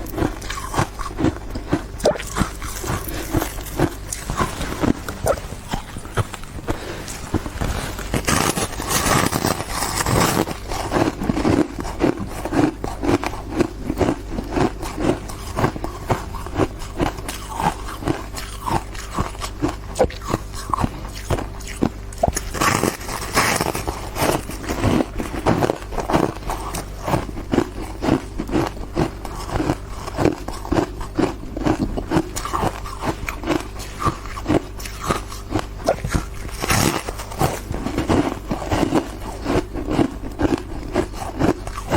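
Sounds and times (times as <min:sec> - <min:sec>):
ice being chewed: 0:00.0 - 0:41.9.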